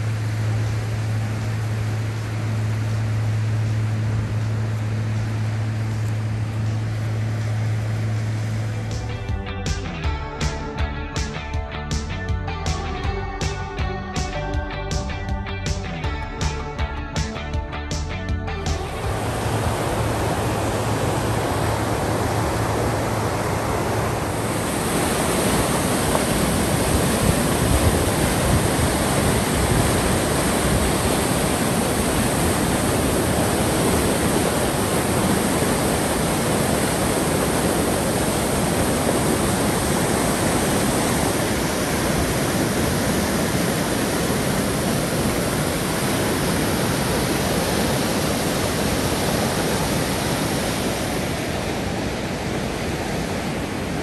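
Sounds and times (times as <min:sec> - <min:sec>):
river rapids roaring: 0:00.0 - 0:54.0.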